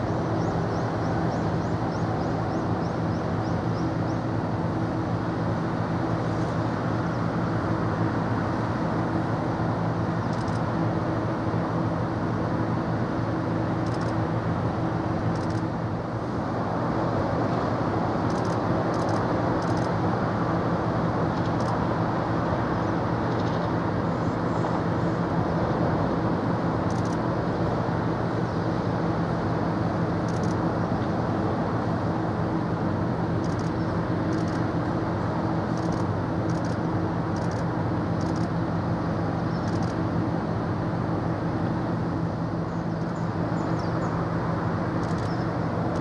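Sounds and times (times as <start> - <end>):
low mechanical drone: 0.0 - 46.0.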